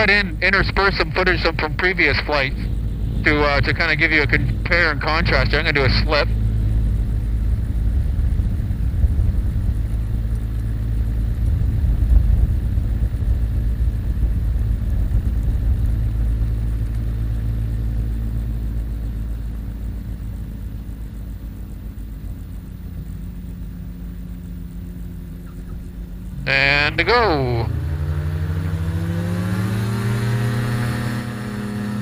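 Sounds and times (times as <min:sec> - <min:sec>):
light aircraft engine idling: 0:00.0 - 0:32.0.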